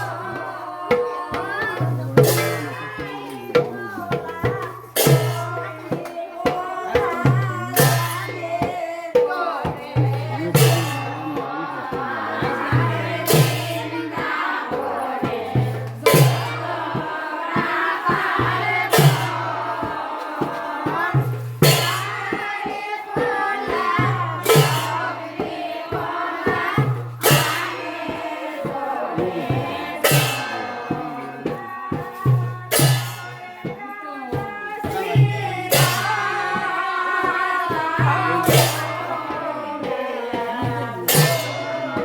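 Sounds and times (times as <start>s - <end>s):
group singing: 0.0s - 42.0s
percussion beat: 0.0s - 42.0s.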